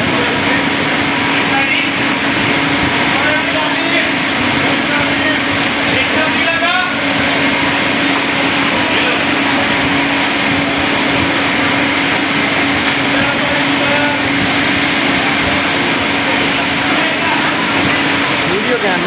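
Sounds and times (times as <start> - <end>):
faint voices: 0.0 - 19.0
steady street noise: 0.0 - 19.0.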